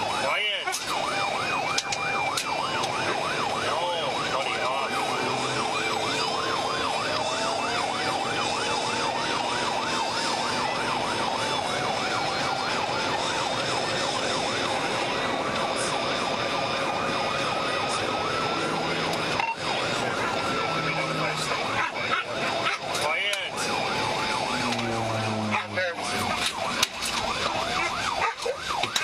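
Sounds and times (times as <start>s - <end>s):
police siren yelp and wail: 0.0s - 29.0s
vehicle noise: 0.0s - 29.0s.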